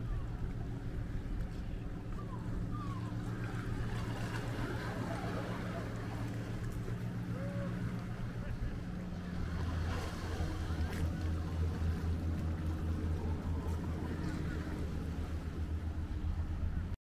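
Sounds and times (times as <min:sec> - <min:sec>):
faint distant voices: 0:00.0 - 0:16.9.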